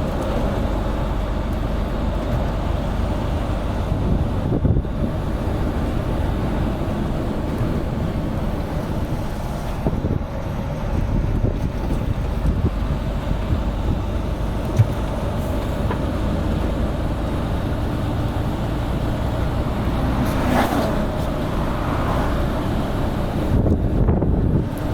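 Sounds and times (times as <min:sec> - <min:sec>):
truck engine and road noise: 0:00.0 - 0:24.9.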